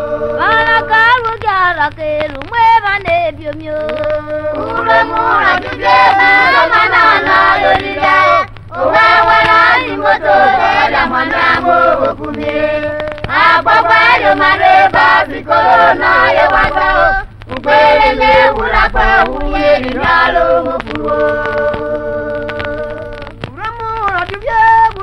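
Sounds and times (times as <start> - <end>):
chorus of voices singing: 0.0 - 1.5, 3.7 - 25.0
low steady hum: 0.0 - 25.0.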